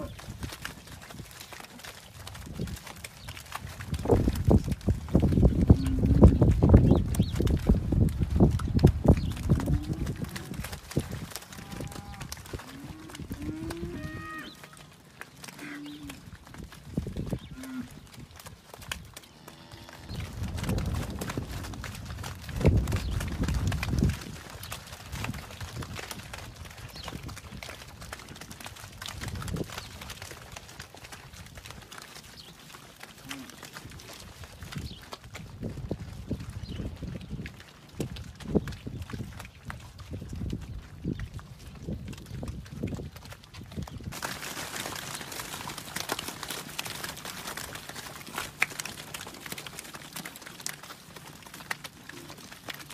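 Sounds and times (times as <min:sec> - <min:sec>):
hooves walking through mud: 0:00.0 - 0:52.9.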